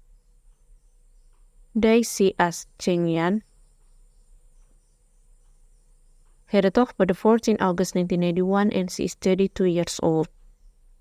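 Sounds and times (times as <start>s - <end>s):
faint low hum and hiss: 0.0s - 11.0s.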